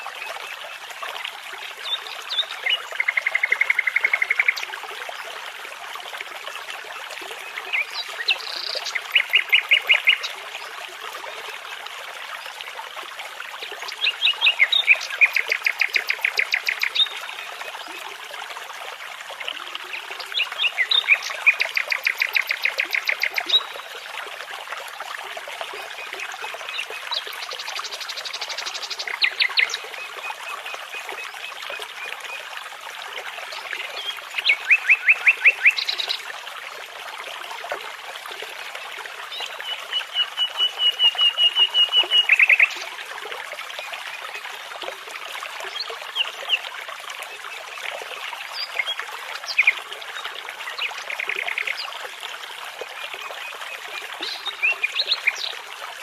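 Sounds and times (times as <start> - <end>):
brook water babbling: 0.0 - 56.0.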